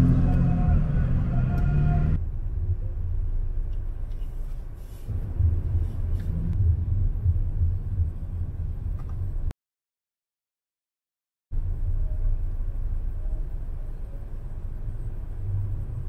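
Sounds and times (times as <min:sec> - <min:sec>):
car driving rumble from inside: 0:00.0 - 0:09.5, 0:11.6 - 0:16.0.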